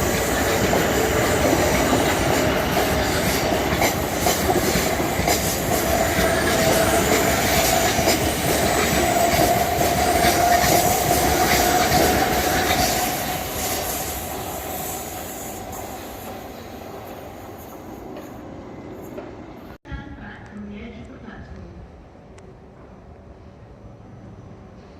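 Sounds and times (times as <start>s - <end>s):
train rumbling past: 0.0s - 24.9s.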